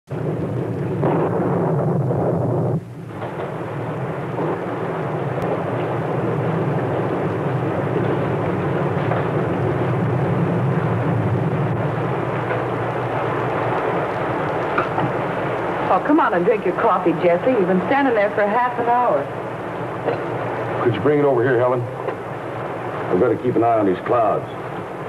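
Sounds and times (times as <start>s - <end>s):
rushing storm noise: 0.1s - 25.0s.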